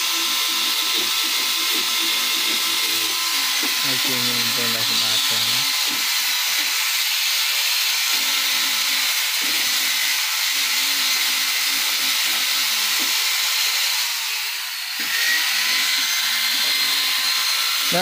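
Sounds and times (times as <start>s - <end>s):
electric drill whining: 0.0s - 18.0s.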